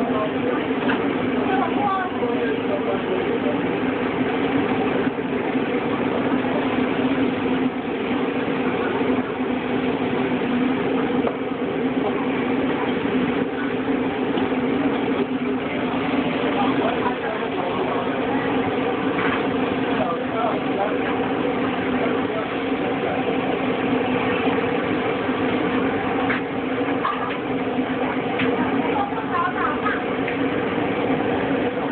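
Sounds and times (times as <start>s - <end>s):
faint voices: 0.0s - 31.9s
machine hum: 0.0s - 31.9s.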